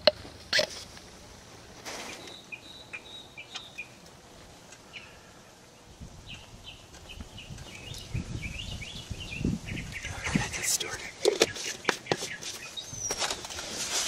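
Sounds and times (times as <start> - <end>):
small birds chirping: 2.0 - 13.6.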